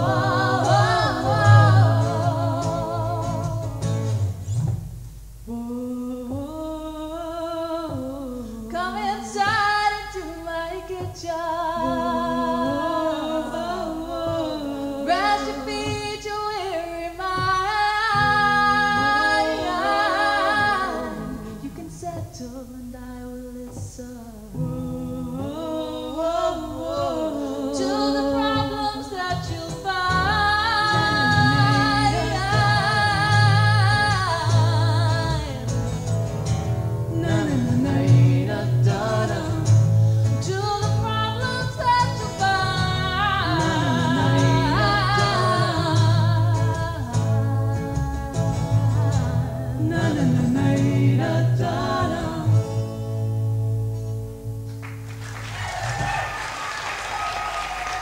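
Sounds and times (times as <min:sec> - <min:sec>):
woman and man singing: 0:00.0 - 0:04.2, 0:05.5 - 0:36.1, 0:37.1 - 0:53.0
double bass: 0:00.0 - 0:55.2
acoustic guitar: 0:00.0 - 0:58.0.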